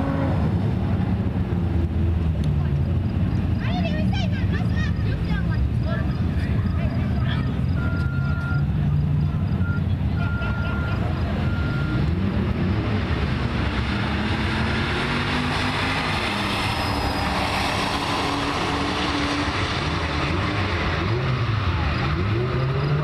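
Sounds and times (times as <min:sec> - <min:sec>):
car engines at full throttle: 0:00.0 - 0:23.0.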